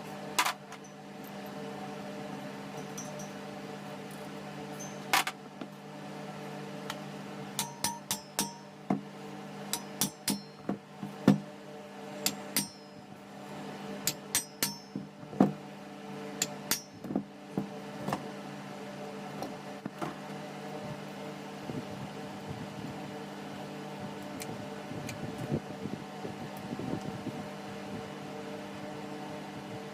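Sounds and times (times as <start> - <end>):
table fan humming: 0.0 - 29.9.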